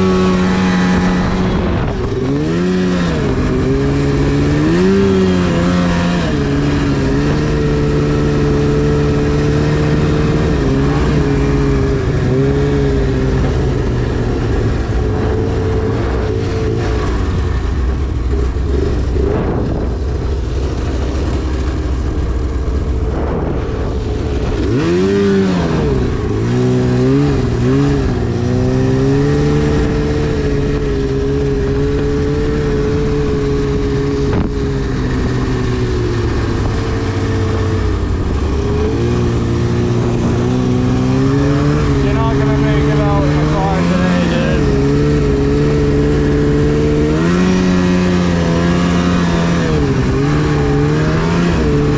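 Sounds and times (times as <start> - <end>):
snowmobile engine at high throttle: 0.0 - 51.9.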